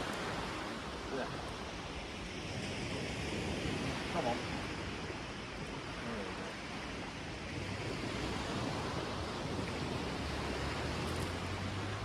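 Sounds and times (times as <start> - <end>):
waves washing on shore: 0.0 - 12.0.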